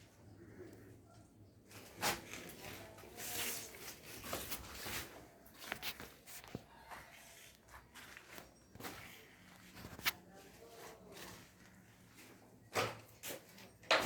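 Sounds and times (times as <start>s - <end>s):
footsteps walking through room: 1.2s - 14.0s.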